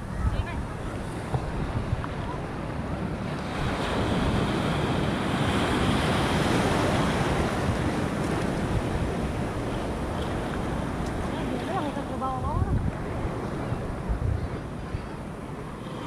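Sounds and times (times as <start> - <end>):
wave whitewater rushing: 0.0 - 16.0.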